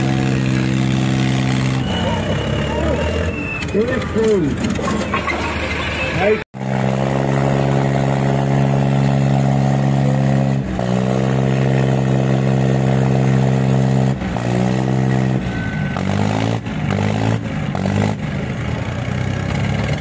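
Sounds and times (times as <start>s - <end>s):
tractor engine labouring: 0.0s - 20.0s.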